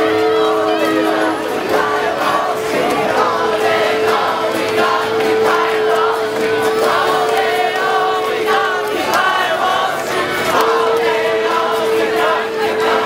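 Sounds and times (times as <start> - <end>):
crowd singing a chant: 0.0 - 13.0
long steady held note: 0.0 - 13.0.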